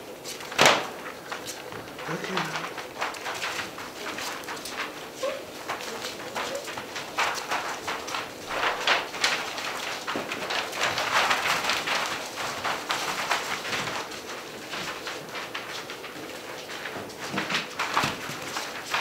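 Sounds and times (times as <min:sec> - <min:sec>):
paws scratching on paper floor: 0:00.0 - 0:19.0.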